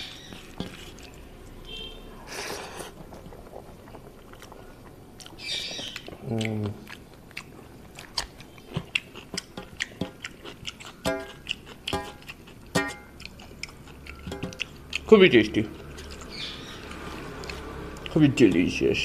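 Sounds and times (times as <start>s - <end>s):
wet chewing mouth clicks: 2.8s - 19.0s.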